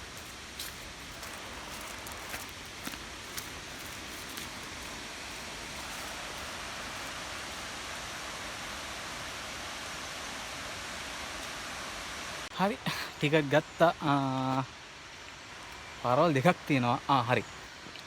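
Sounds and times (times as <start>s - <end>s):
water rushing: 0.0s - 17.3s.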